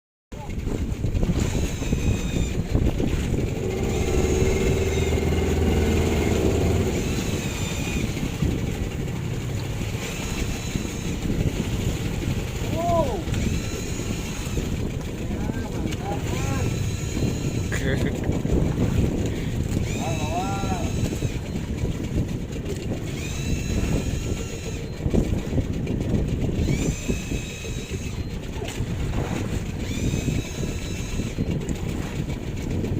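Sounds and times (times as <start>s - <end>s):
wind buffeting microphone: 0.3s - 32.9s
small engine running: 0.4s - 32.9s
high steady whine: 1.4s - 18.2s, 18.8s - 31.9s.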